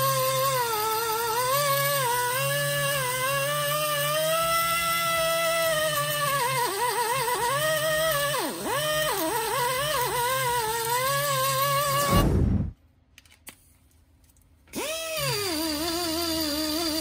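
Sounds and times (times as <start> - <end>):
die grinder whining on metal: 0.0 - 12.2, 14.8 - 17.0.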